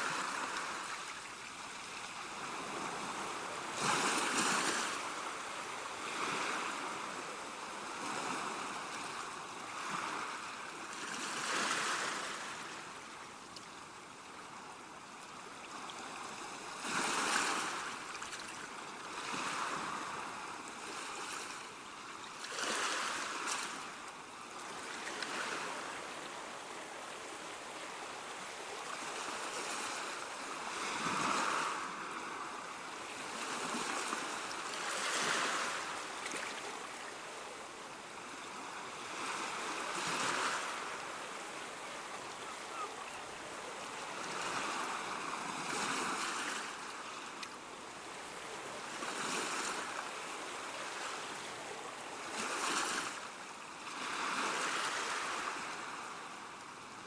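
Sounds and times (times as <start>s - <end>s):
ocean waves breaking: 0.0s - 13.0s, 22.4s - 56.3s.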